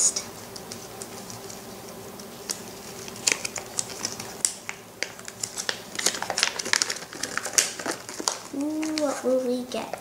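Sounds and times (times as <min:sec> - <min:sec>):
packaging being unwrapped: 0:00.6 - 0:09.9.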